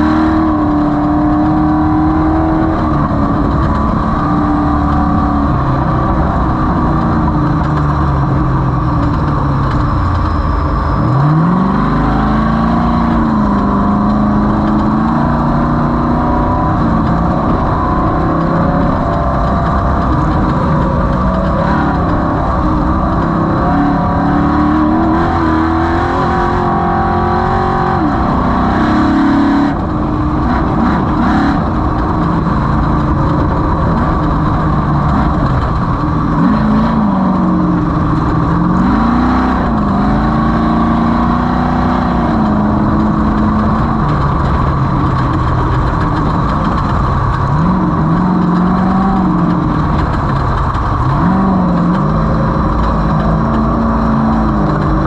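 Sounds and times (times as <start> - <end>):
loud rumble: 0.0 - 55.0
off-road vehicle engine running hard: 0.0 - 55.0.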